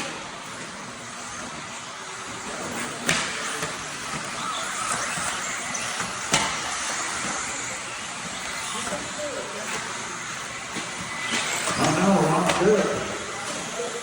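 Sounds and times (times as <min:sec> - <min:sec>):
radio-controlled cars hissing: 0:00.0 - 0:14.0.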